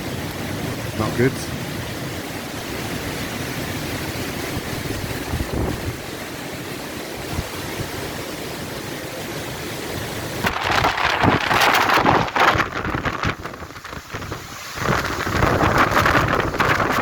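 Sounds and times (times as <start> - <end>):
heavy rain: 0.0 - 17.0
strong wind: 0.0 - 17.0
wind gust buffeting microphone: 0.0 - 17.0.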